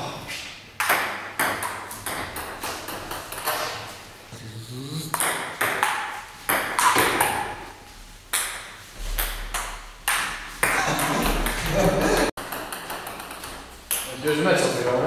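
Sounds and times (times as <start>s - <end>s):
ping-pong ball hitting paddles: 0.8s - 3.9s, 5.1s - 14.8s.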